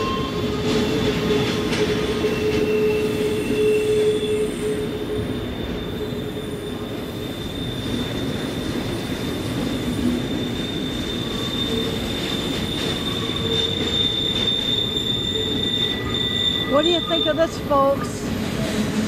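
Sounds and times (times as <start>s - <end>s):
lower wheel squeal: 0.0s - 19.0s
rumble of passing train cars: 0.0s - 19.0s
train wheels squealing: 0.0s - 19.0s.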